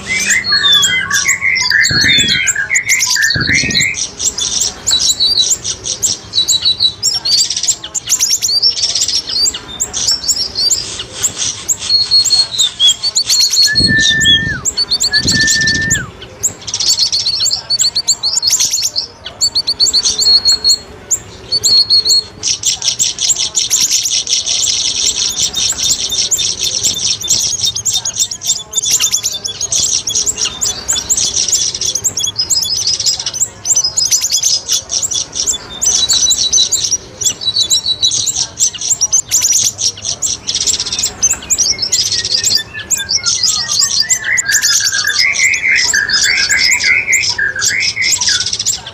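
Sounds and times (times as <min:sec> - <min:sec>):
bird chirps and trills: 0:00.0 - 0:48.9.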